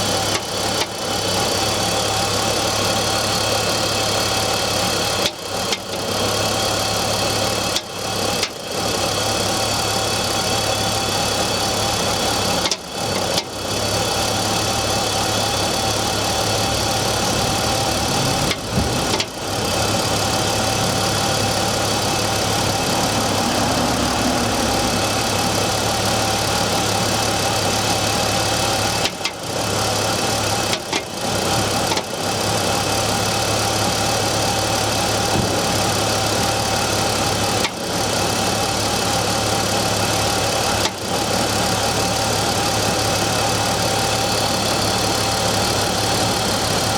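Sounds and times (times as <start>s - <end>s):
car engine idling with knocking: 0.0s - 46.9s.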